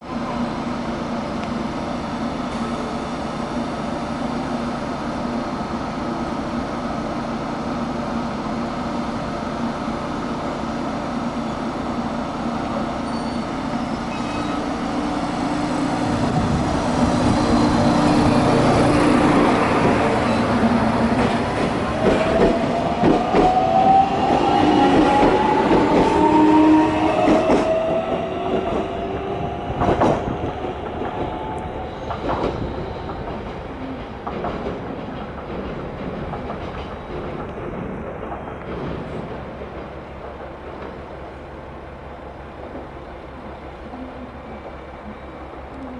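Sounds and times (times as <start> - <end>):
electric train humming: 0.1 - 45.9.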